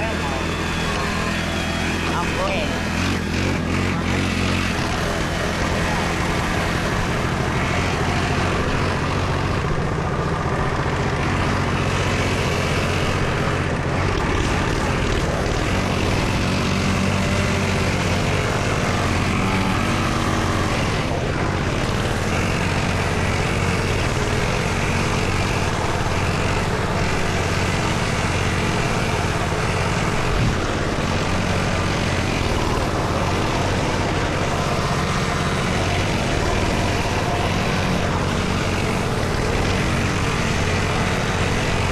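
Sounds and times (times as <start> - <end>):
dirt bike engine buzzing: 0.0 - 41.9.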